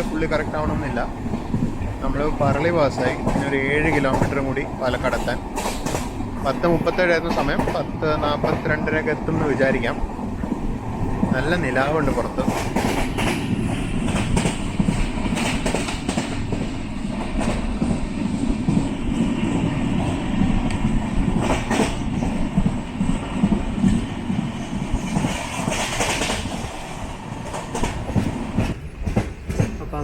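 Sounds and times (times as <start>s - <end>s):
train wheels rumbling on rails: 0.0s - 30.0s
wheels clacking over rail joints: 0.0s - 30.0s.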